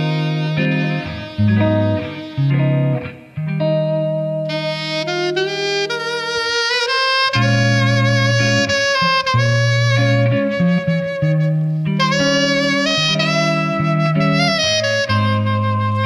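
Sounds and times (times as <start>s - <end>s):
sustained bass notes: 0.0s - 5.6s, 7.3s - 16.0s
melody of held notes: 0.0s - 16.0s.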